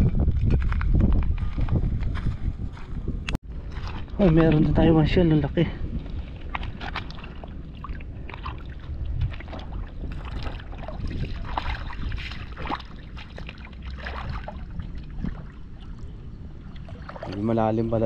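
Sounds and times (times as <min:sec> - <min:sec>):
wind rumble on microphone: 0:00.0 - 0:18.0
water splashing in shallows: 0:03.5 - 0:18.0.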